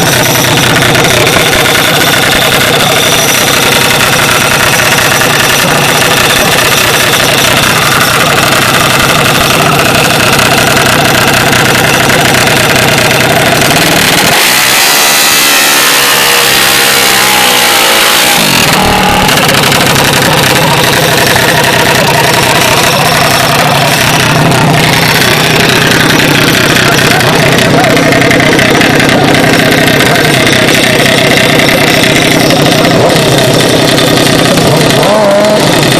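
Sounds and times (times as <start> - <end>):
mini bike engines running: 0.0 - 35.9.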